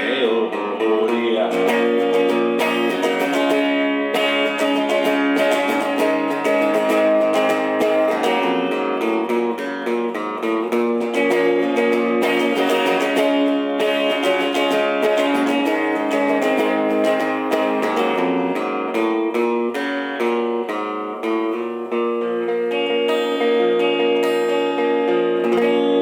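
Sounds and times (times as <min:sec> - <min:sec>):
plucked string instrument music: 0:00.0 - 0:26.0.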